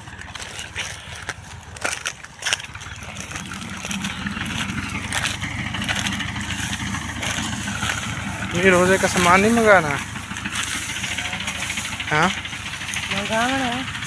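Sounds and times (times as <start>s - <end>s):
dry straw crackling: 0.0s - 14.0s
motor engine running: 0.0s - 14.0s.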